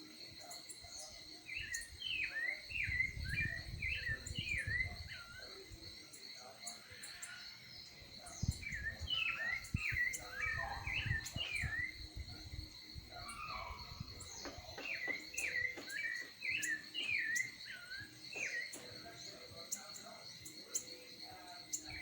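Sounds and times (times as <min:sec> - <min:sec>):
high insect buzz: 0:00.0 - 0:22.0
songbird chirping: 0:00.0 - 0:22.0.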